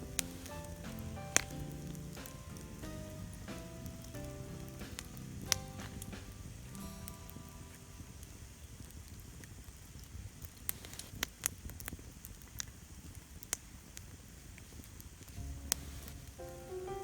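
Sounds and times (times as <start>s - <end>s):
campfire low rumble: 0.0s - 17.0s
fire crackling pops: 0.0s - 17.0s.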